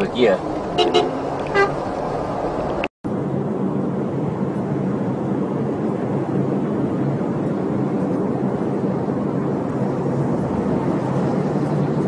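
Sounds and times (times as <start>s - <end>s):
truck engine drone: 0.0s - 12.0s
wind: 0.0s - 12.0s.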